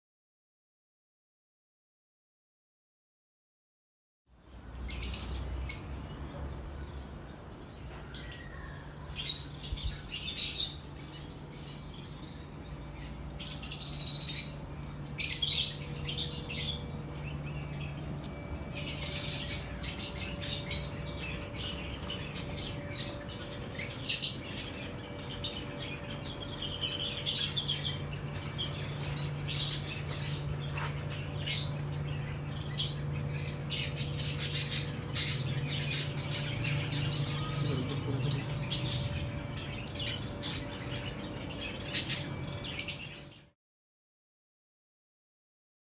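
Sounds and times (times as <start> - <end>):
lovebirds chirping and squawking: 4.4 - 43.5
steady low hum: 4.4 - 43.5.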